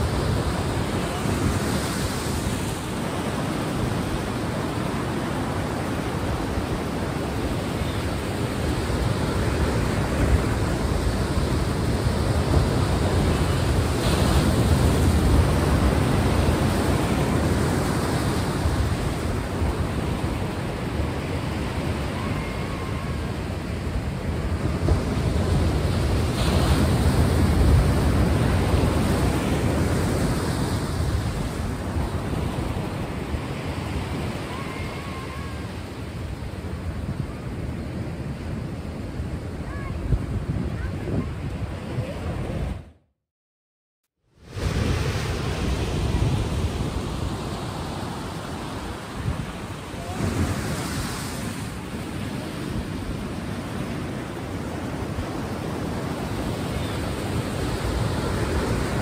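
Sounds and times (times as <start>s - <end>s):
sea waves washing: 0.0s - 40.9s, 44.4s - 59.0s.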